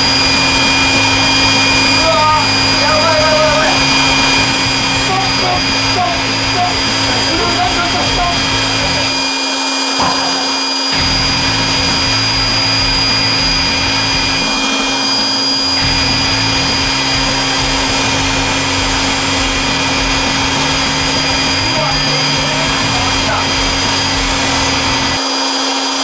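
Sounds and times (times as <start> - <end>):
electric air blower whining: 0.0 - 26.0.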